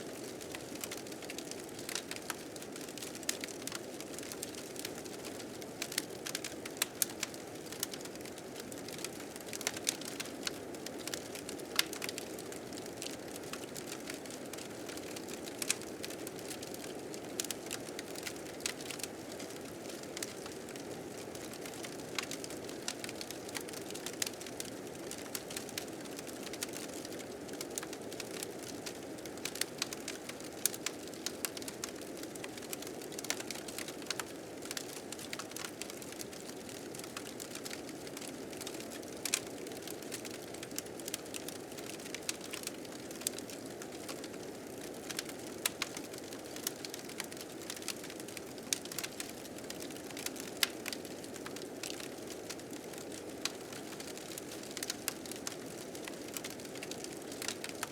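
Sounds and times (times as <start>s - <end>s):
fire crackling and popping: 0.2s - 57.9s.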